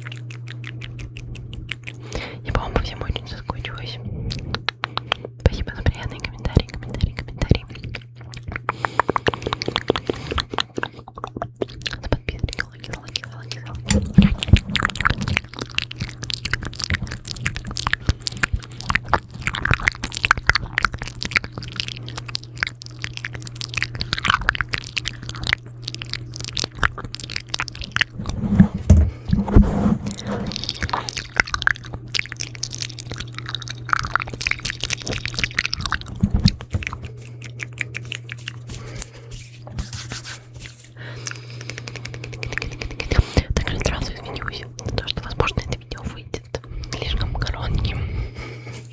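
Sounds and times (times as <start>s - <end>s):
wet mouth clicks and lip smacks: 0.0s - 28.3s, 30.1s - 48.0s.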